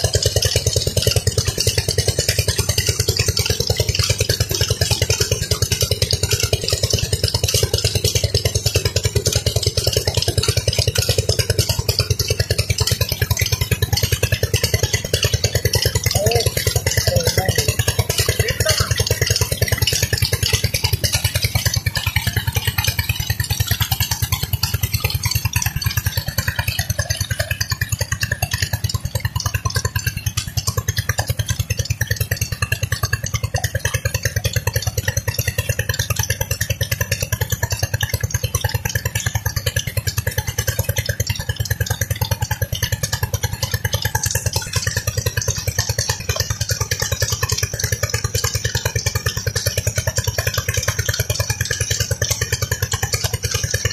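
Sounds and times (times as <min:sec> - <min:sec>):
diesel engine running a pump: 0:00.0 - 0:53.9.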